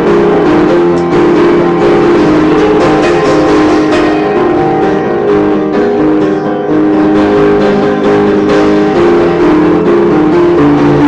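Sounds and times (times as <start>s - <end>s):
upright piano playing: 0.0s - 11.0s.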